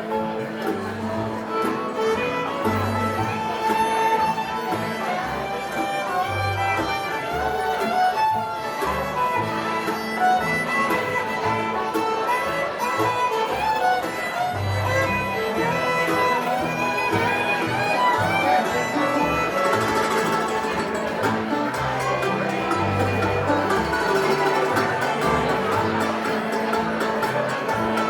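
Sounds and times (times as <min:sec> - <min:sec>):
fiddle melody: 0:00.0 - 0:28.0
guitar: 0:00.0 - 0:28.0.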